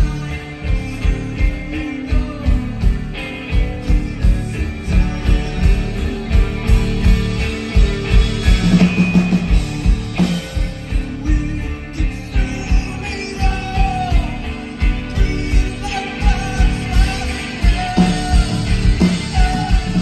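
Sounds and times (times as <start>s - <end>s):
bass guitar: 0.0s - 20.0s
distorted electric guitars: 0.0s - 20.0s.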